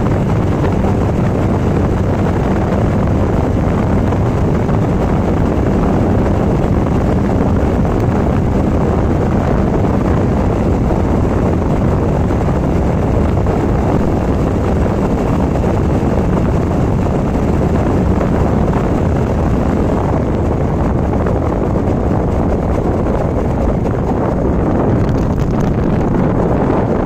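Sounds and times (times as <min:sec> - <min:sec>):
motorcycle engine cruising: 0:00.0 - 0:27.0
wind rush on microphone: 0:00.0 - 0:27.0.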